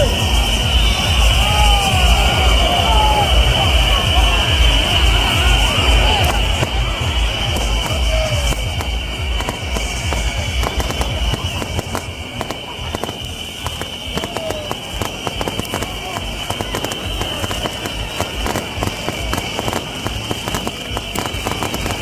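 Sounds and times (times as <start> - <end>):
fireworks and firecrackers crackling: 0.0 - 22.0.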